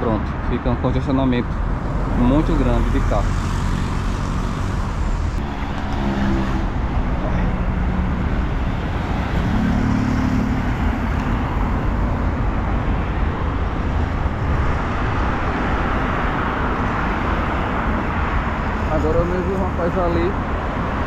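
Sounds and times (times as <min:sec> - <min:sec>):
road traffic noise: 0:00.0 - 0:21.0
vehicles passing near: 0:00.0 - 0:21.0.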